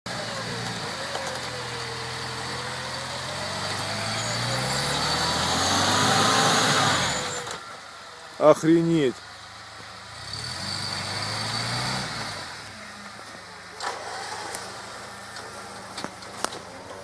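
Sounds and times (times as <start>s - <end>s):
off-road vehicle engine running: 0.1s - 17.0s.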